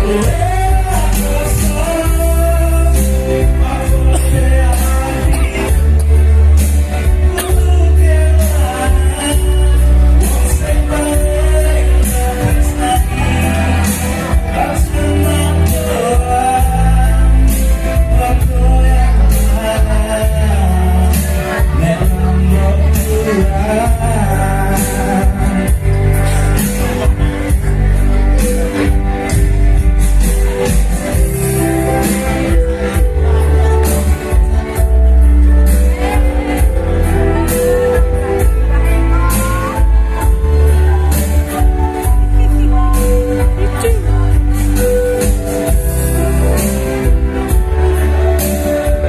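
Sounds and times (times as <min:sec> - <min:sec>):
loud music with heavy bass beat: 0:00.0 - 0:49.0
person singing: 0:00.0 - 0:49.0.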